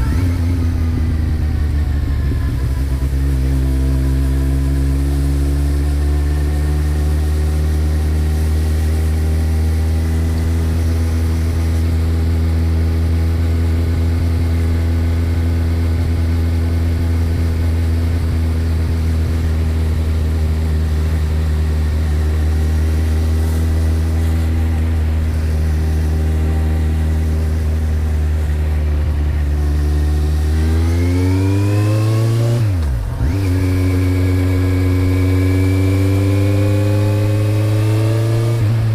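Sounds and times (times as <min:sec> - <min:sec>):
motorcycle engine running and revving: 0:00.0 - 0:38.9.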